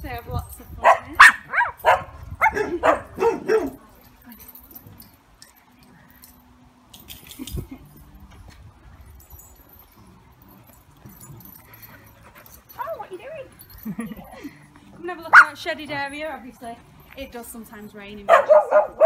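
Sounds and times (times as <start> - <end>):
dogs barking and yipping: 0.6 - 6.4, 7.0 - 17.2, 18.2 - 19.0.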